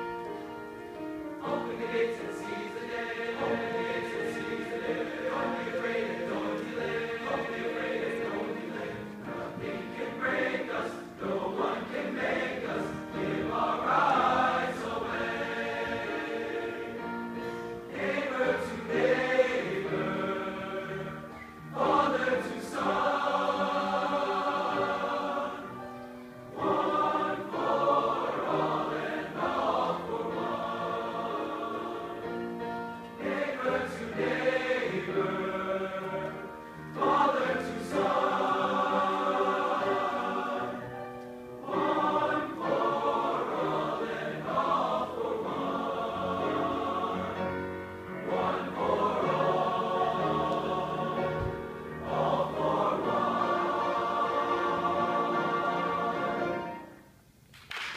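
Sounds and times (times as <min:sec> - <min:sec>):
men's choir singing: 0:01.3 - 0:56.9.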